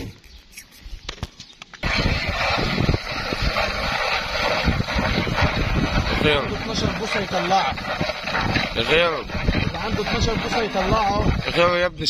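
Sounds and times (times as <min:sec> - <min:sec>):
loud outdoor noise: 0:01.1 - 0:12.0
milk squirting into plastic bucket: 0:01.8 - 0:11.7.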